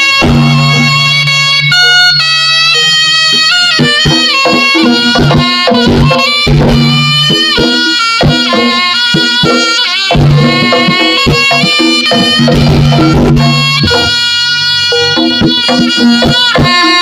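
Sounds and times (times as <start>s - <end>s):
hand drum strokes: 0.0s - 2.2s, 2.8s - 17.0s
shrill shawm melody: 0.0s - 17.0s.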